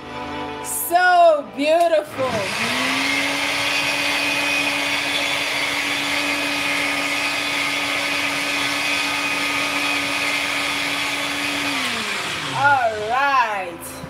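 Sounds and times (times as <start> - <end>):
blender motor running: 2.1 - 13.5.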